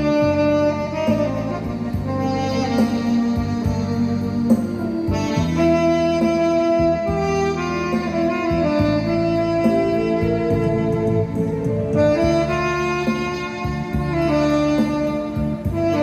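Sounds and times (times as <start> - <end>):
accompaniment with bass line: 0.0 - 16.0
tenor saxophone ballad melody: 0.0 - 16.0.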